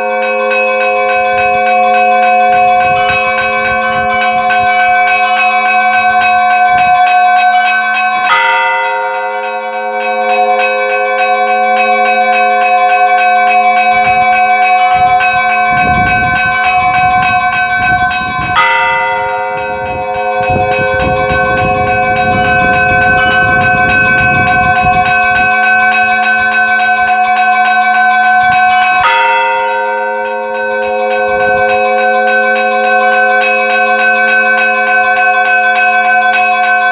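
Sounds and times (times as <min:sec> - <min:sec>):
church bells ringing: 0:00.0 - 0:36.9
heavy bell struck: 0:00.0 - 0:36.9.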